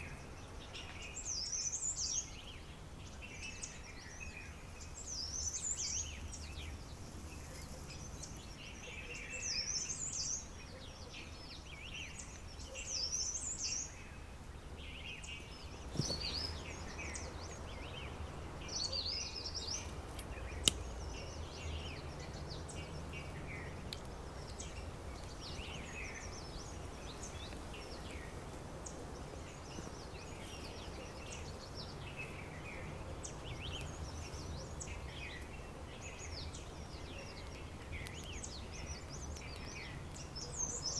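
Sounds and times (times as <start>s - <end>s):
birds singing and chirping: 0.0s - 40.9s.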